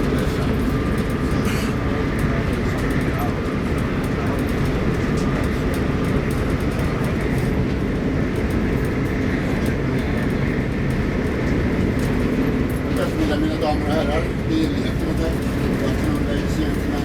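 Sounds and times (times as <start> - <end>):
train rumble with faint whine: 0.0 - 17.0.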